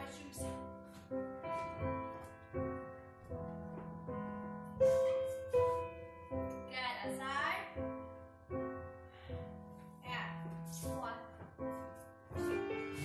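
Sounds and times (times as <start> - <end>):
piano notes and chords: 0.0 - 13.0.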